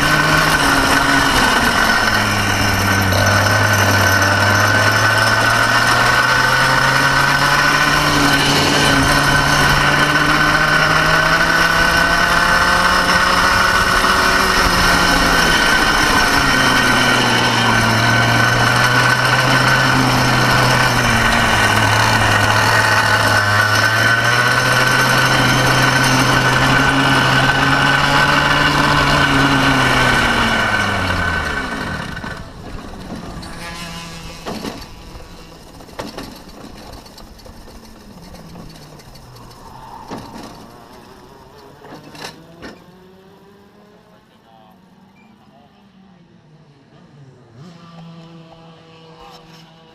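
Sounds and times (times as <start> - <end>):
go-kart engine revving: 0.0 - 49.9.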